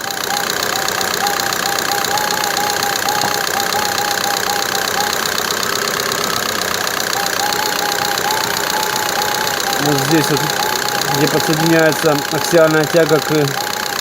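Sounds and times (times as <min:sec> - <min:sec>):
car engine running: 0:00.0 - 0:14.0
rapid knocking from steering: 0:00.0 - 0:14.0.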